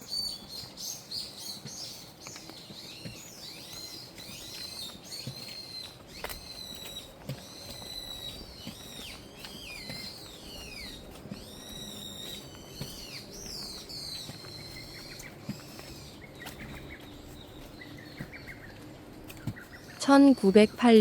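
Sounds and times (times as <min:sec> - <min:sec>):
birds whistling calls: 0:00.0 - 0:21.0
soft bird chirps: 0:00.0 - 0:21.0.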